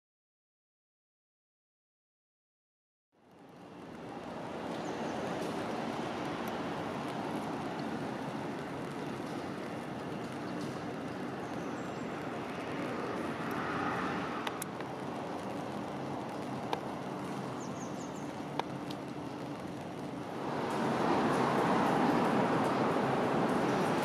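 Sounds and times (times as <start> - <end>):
rushing outdoor background noise: 3.2 - 24.0.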